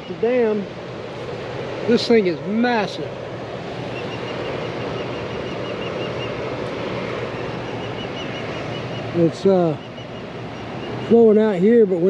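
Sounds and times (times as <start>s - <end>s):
water rushing below a dam: 0.0s - 12.0s.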